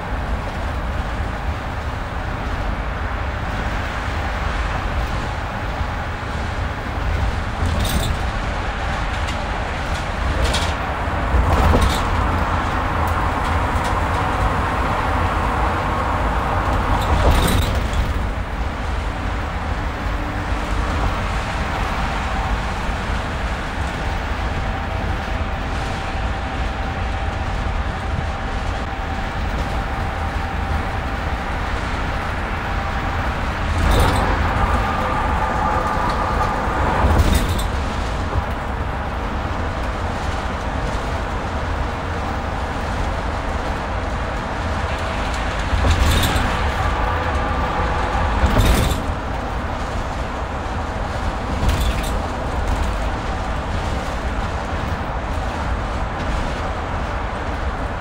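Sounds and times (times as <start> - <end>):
car road and tyre noise: 0.0 - 58.0.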